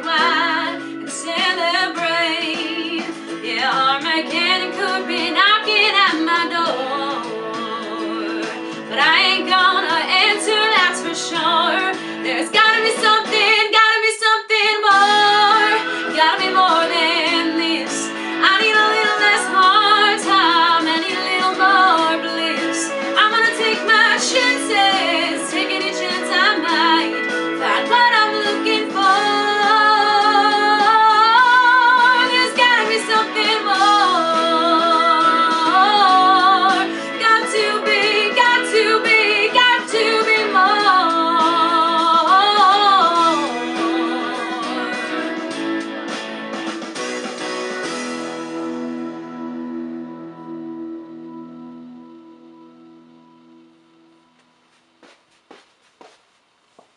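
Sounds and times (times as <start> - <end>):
woman singing: 0.0 - 45.8
musical accompaniment: 0.0 - 55.1.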